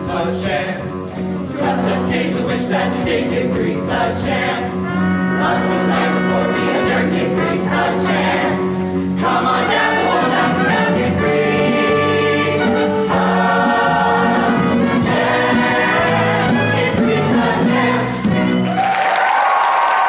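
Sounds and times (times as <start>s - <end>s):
pit band playing: 0.0s - 19.3s.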